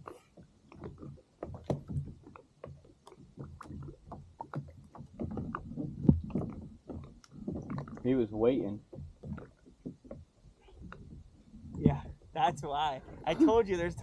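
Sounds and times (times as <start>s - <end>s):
knocks and clatter on kayak: 0.0s - 14.0s
water against hull: 0.0s - 14.0s.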